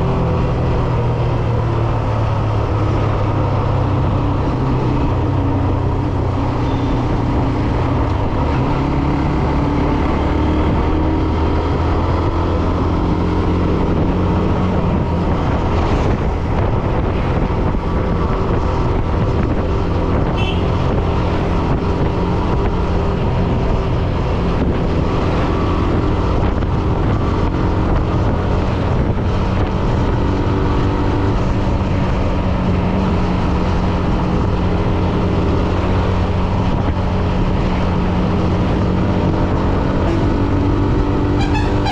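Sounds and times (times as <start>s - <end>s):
wind noise on microphone: 0.0s - 41.9s.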